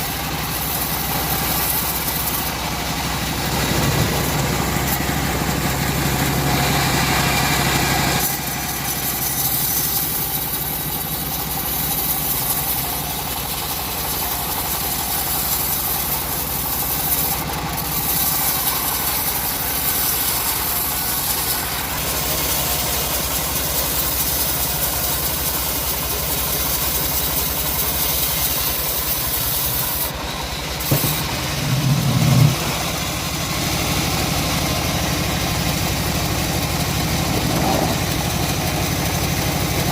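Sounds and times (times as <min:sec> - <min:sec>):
band saw mill running: 0:00.0 - 0:39.9.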